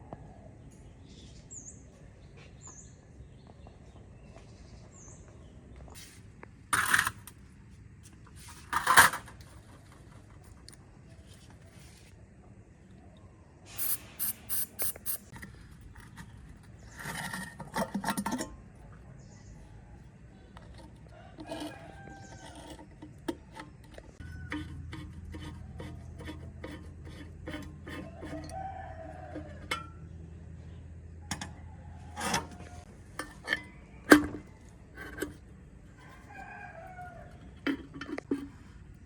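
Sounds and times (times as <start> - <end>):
low steady hum: 3.0 - 39.0.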